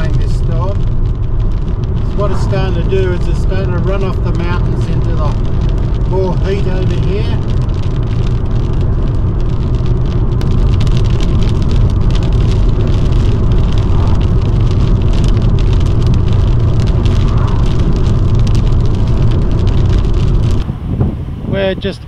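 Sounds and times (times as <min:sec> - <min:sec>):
car road and engine noise: 0:00.0 - 0:22.0
rain pattering on windscreen: 0:00.0 - 0:22.0.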